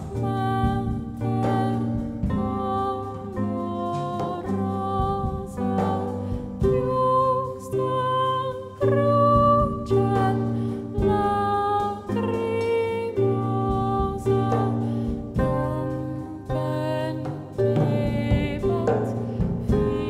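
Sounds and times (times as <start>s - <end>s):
harp plucked chords: 0.0s - 20.0s
woman singing sustained notes: 0.0s - 20.0s.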